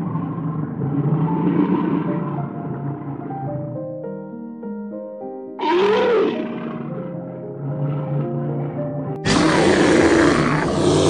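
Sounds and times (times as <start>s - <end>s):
bears growling: 0.0s - 3.9s, 5.6s - 11.0s
background music: 1.4s - 11.0s.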